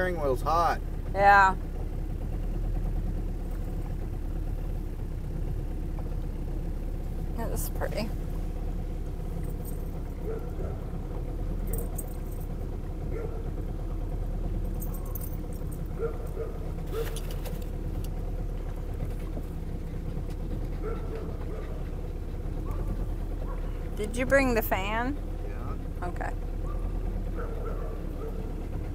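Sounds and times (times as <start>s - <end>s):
faint rattles: 0.0s - 28.9s
motorboat engine droning: 0.0s - 28.9s.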